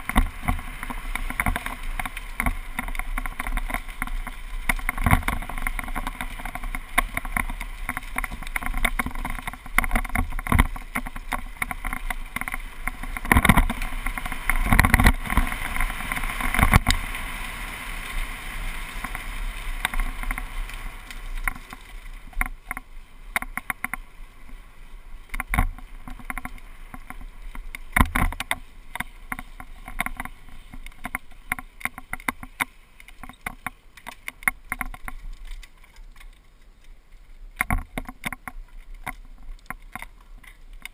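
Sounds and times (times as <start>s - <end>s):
wind noise: 0.0s - 33.7s
bike tyre noise: 0.0s - 40.9s.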